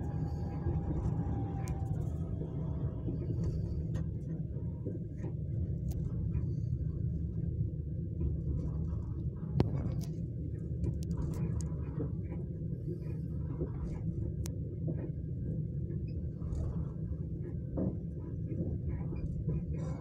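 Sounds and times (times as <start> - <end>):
train rumbling inside carriage: 0.0 - 20.0.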